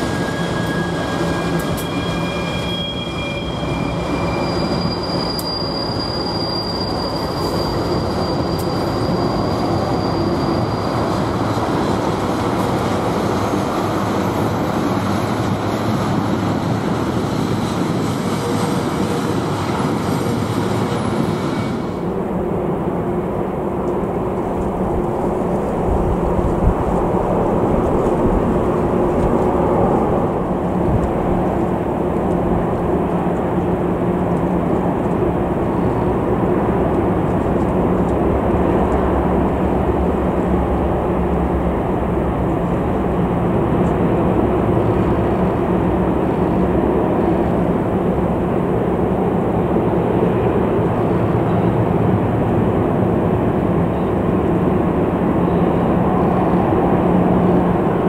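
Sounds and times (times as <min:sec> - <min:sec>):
diesel locomotives rumbling past: 0:00.0 - 0:58.0.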